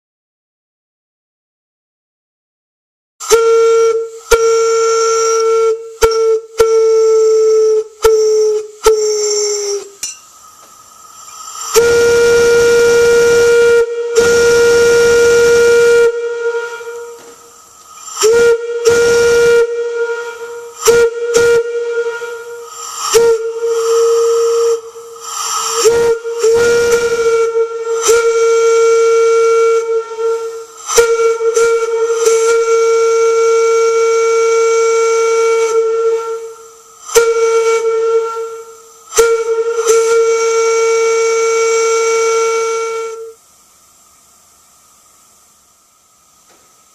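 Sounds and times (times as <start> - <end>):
steam whistle blowing: 3.2 - 46.4.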